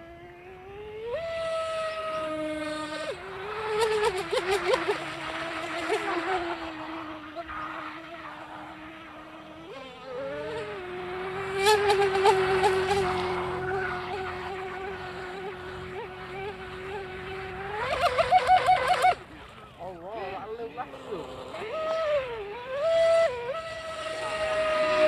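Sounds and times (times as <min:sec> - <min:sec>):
electric motor whining: 0:00.0 - 0:25.0
crackly bursts: 0:01.0 - 0:25.0.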